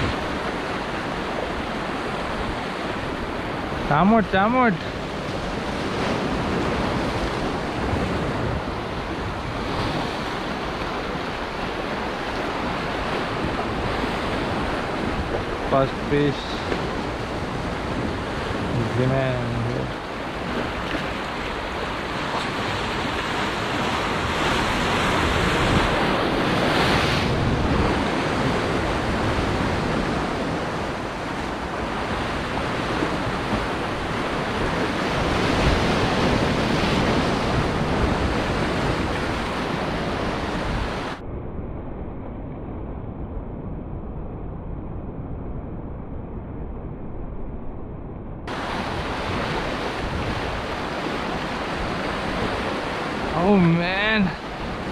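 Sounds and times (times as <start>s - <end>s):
surf breaking over rocks: 0.0s - 41.2s, 48.5s - 54.9s
wind buffeting microphone: 0.0s - 54.9s.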